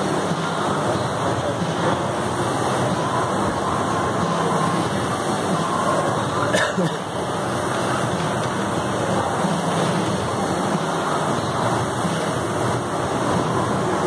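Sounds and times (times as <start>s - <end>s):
rowing machine fan whooshing: 0.0s - 14.0s.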